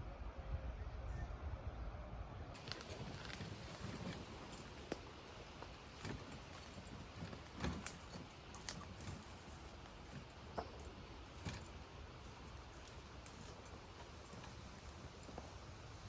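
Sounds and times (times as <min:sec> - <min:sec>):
faint background hiss: 0:02.5 - 0:16.0
light clicks and knocks: 0:02.6 - 0:16.0.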